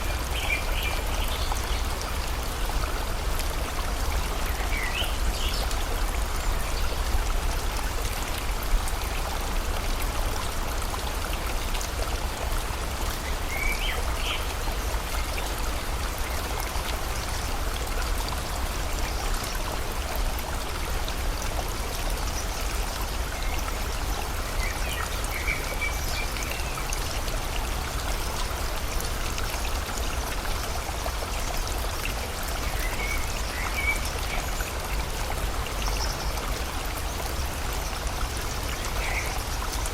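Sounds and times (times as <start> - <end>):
rain falling: 0.0 - 39.9
river water rushing: 0.0 - 39.9.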